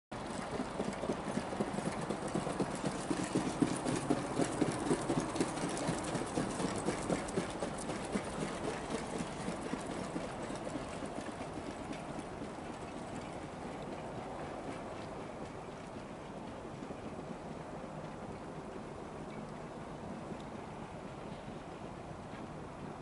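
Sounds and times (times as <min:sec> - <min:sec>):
trotting horse hoofbeats: 0:00.2 - 0:23.0.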